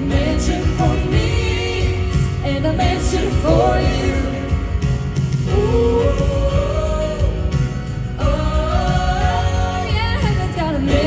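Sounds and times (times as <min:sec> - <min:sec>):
band playing steady beat: 0:00.0 - 0:11.0
voices singing in harmony: 0:00.0 - 0:11.0.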